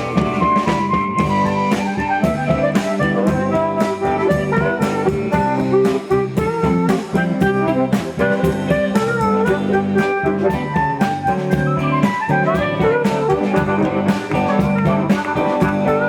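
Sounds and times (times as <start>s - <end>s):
country band playing instrumental: 0.0s - 16.0s
steady drum beat: 0.0s - 16.0s.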